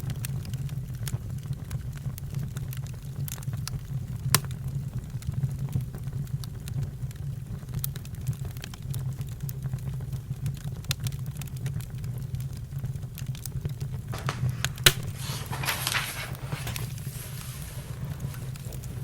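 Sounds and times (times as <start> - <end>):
campfire crackling: 0.4 - 19.0.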